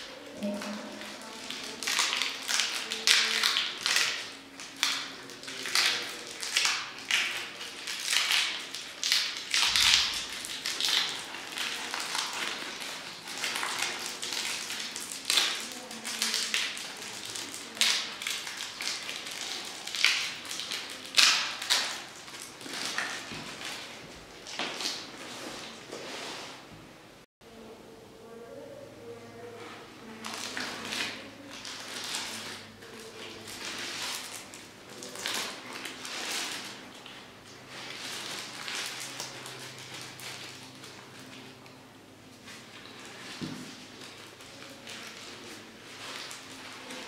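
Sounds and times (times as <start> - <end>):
plastic crinkling: 0.0 - 26.5, 30.0 - 47.0.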